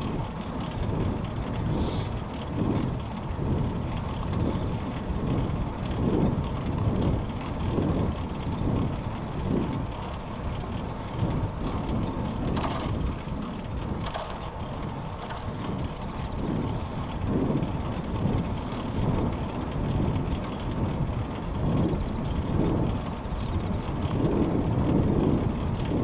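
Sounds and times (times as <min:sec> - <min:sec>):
bicycle road and wind rumble: 0:00.0 - 0:26.0.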